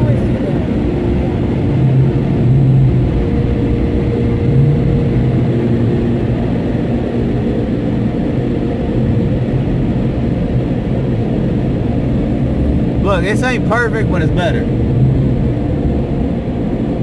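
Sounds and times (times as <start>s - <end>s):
car wash air-dryer blowers running: 0.0s - 17.0s.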